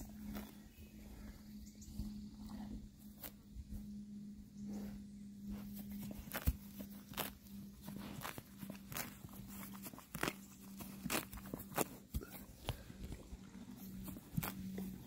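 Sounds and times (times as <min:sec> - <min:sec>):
horse tearing and chewing grass: 0:00.0 - 0:15.0
steady low hum: 0:00.0 - 0:15.0.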